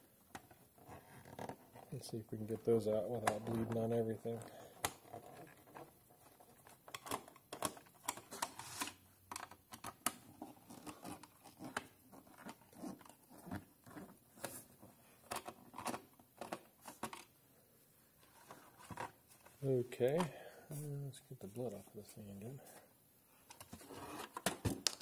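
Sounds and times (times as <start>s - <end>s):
hands handling plastic case: 0.3s - 17.4s, 18.2s - 20.8s, 22.6s - 25.0s.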